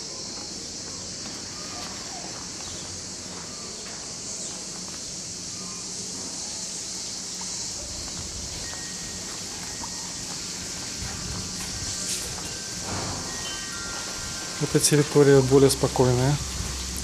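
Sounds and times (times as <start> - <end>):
cicadas buzzing: 0.0 - 17.0.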